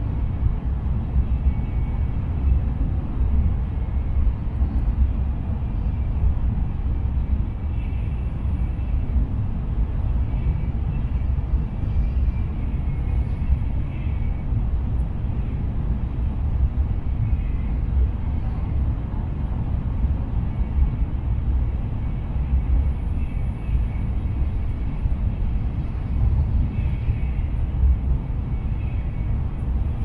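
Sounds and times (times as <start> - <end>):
rumble of train wheels on track: 0.0 - 30.0.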